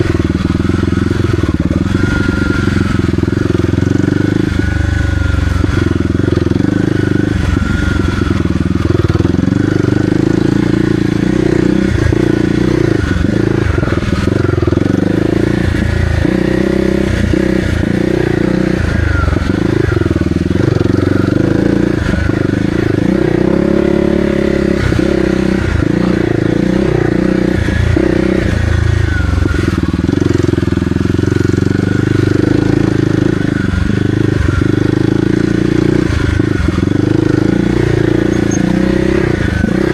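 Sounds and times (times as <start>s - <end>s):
motorcycle engine revving on trail: 0.0s - 39.9s.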